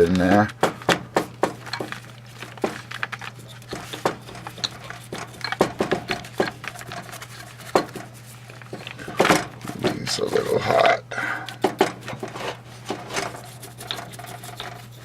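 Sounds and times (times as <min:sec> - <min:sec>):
toothbrush tapping and scratching stone: 0:00.1 - 0:15.0.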